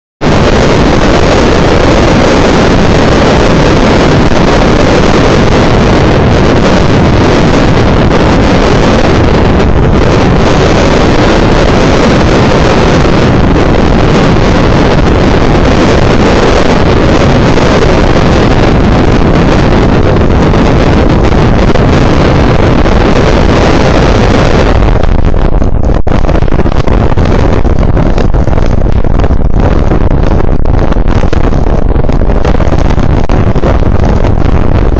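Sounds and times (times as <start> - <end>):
wind blasting microphone: 0.0 - 34.9.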